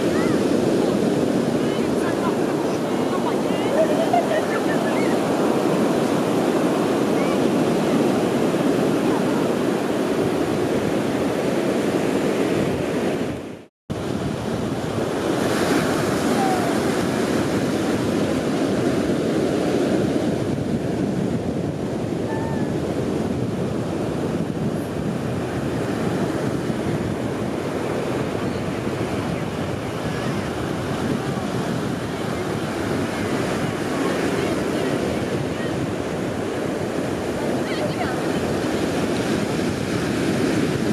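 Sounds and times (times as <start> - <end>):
waves breaking on a beach: 0.0 - 40.9.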